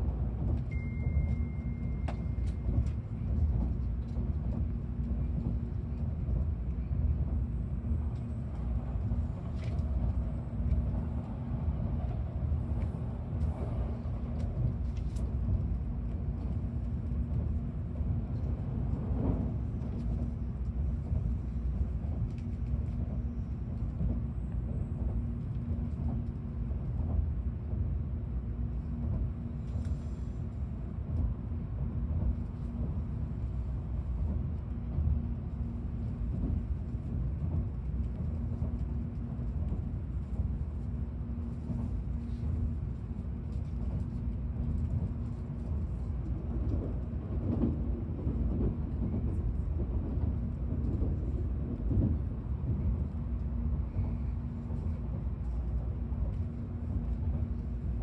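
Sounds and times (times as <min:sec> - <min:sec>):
train interior rumble: 0:00.0 - 0:58.0.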